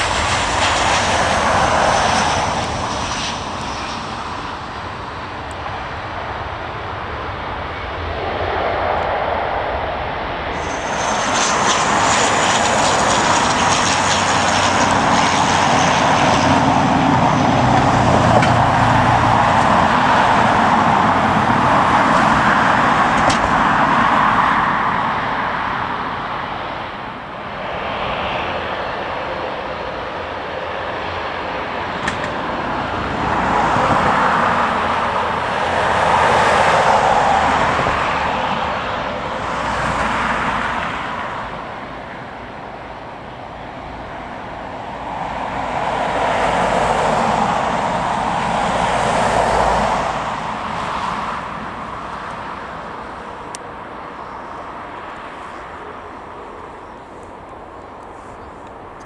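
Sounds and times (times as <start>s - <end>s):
jet airliner passing: 0.0s - 59.0s.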